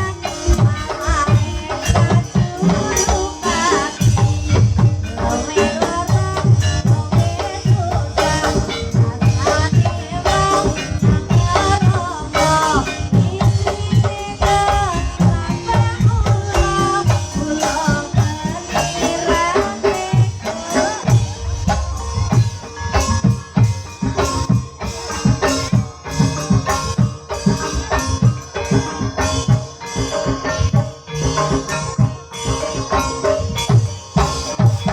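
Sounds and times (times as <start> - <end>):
drums beating quick rhythm: 0.0 - 34.9
ringing metal tones: 0.0 - 34.9.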